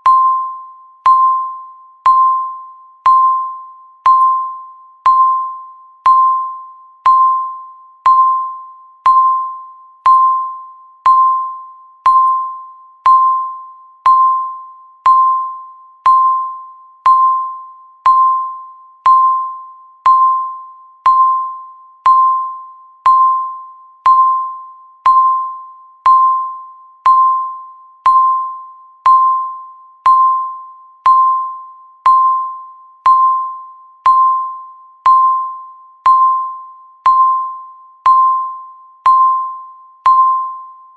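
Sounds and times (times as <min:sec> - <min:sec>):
countdown timer beeping: 0:00.0 - 0:40.7.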